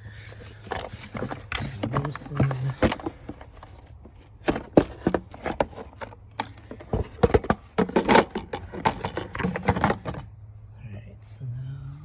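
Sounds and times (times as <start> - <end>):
plastic parts clicking and knocking: 0.6 - 10.3.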